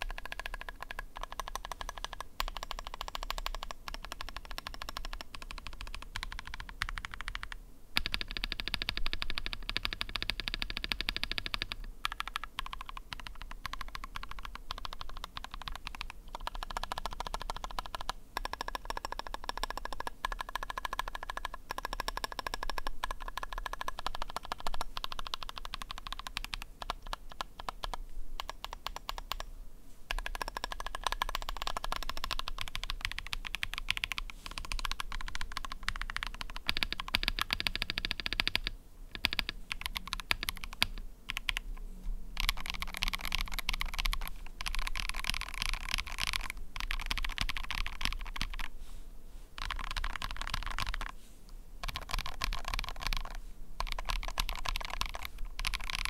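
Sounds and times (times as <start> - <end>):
mechanical keyboard typing: 0.0 - 29.5, 30.1 - 41.7, 42.4 - 48.7, 49.6 - 51.2, 51.8 - 56.0.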